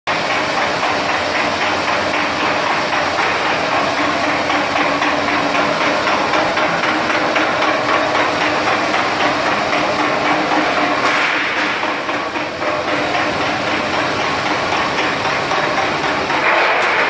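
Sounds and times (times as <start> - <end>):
production line machine din: 0.1 - 17.0
steady machine hum: 0.1 - 17.0
rapid fine clatter: 0.3 - 17.0.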